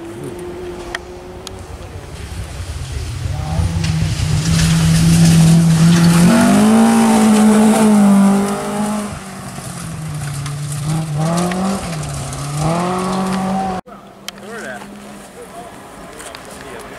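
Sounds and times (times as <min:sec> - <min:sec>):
rally car engine at high revs: 0:00.0 - 0:13.8.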